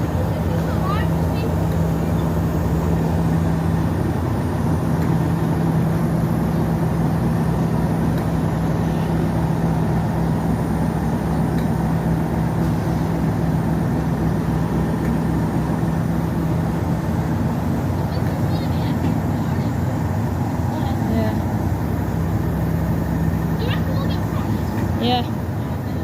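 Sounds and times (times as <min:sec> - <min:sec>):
diesel train droning: 0:00.0 - 0:26.0.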